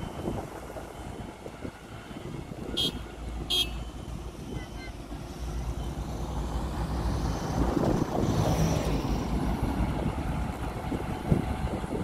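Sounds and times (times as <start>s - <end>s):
grader diesel engine running: 0.0s - 12.0s.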